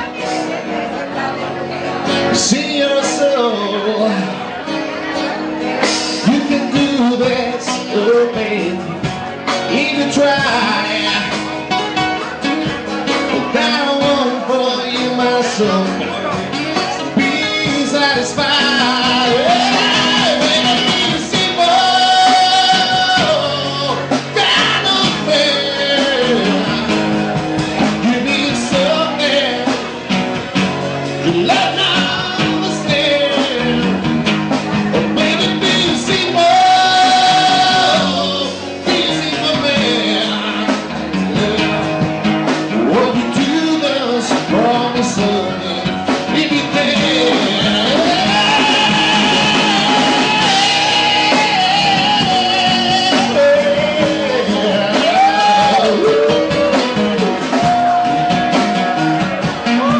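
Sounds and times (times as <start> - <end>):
lead singer singing: 0.0 - 59.9
live rock band playing: 0.0 - 59.9.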